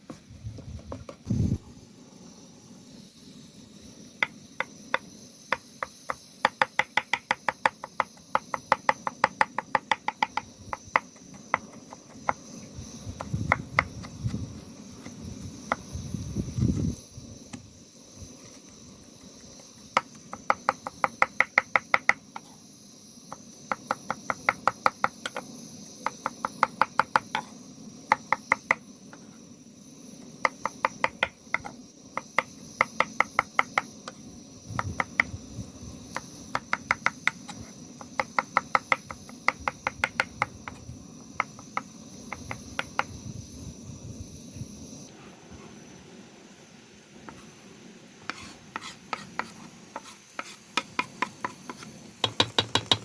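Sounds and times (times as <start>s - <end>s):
insect drone: 0.0s - 53.0s.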